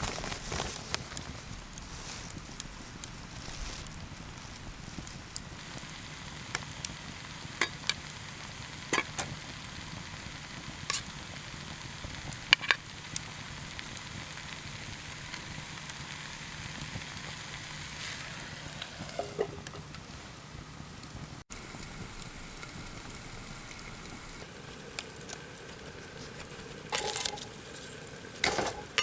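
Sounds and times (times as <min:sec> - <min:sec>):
campfire pops and crackles: 0:00.0 - 0:29.0
food sizzling in a pan: 0:00.0 - 0:29.0.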